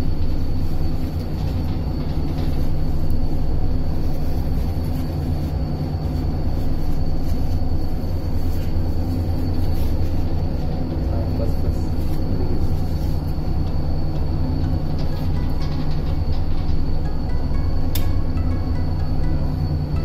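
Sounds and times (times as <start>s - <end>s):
low machinery drone: 0.0s - 20.0s
thin high whine: 0.0s - 20.0s.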